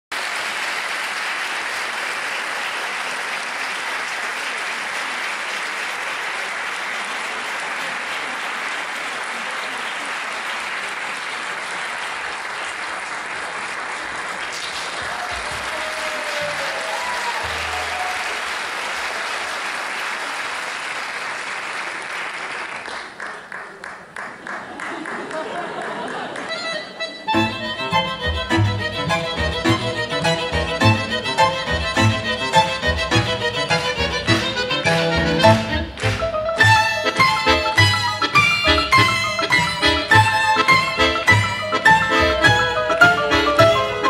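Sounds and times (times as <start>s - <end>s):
audience applauding: 0.1s - 44.0s.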